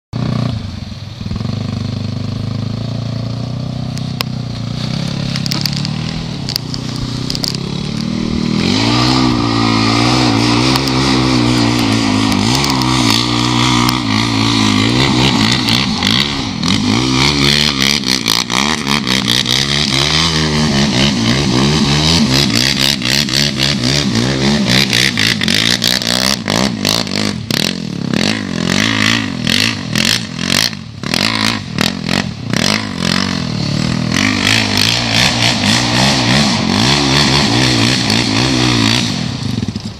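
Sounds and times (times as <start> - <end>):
atv engine revving: 0.2 - 39.9.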